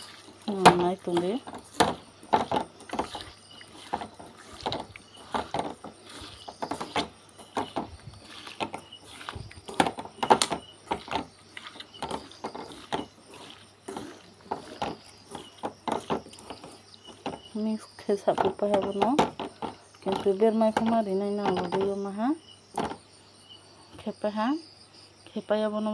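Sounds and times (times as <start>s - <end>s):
hand mixing fish in metal pan: 0.0s - 23.1s.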